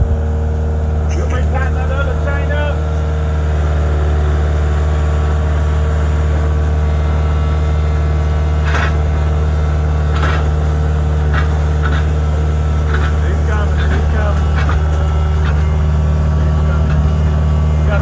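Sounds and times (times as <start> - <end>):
heavy equipment engine running: 0.0 - 18.0.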